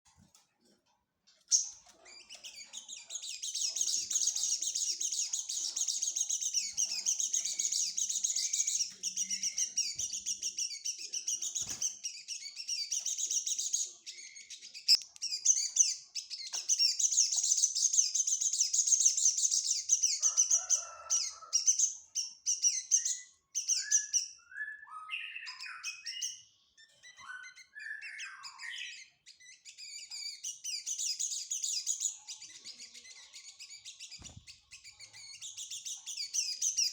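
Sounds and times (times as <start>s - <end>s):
songbird twittering chirps: 1.4s - 36.9s.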